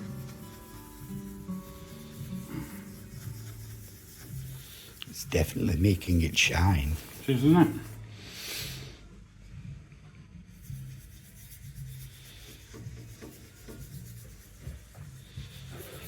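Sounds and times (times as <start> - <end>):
cloth rubbing wax polish: 0.0 - 8.0, 10.5 - 16.0.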